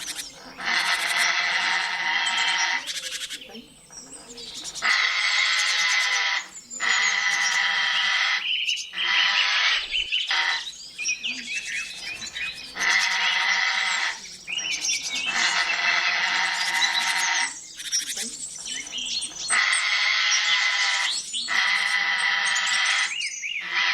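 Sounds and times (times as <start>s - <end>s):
bird long calls: 0.0s - 23.9s.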